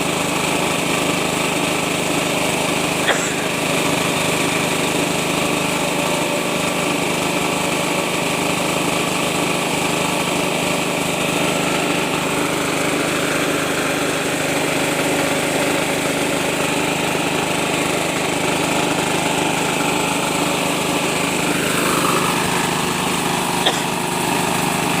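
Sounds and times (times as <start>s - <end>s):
diesel engine driving rice mill: 0.0s - 25.0s.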